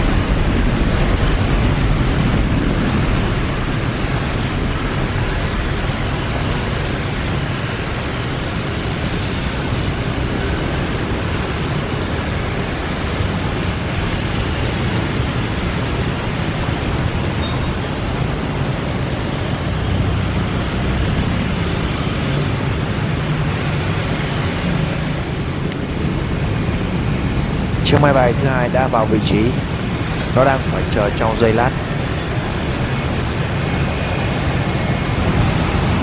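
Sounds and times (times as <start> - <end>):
jet engines at takeoff: 0.0 - 36.0.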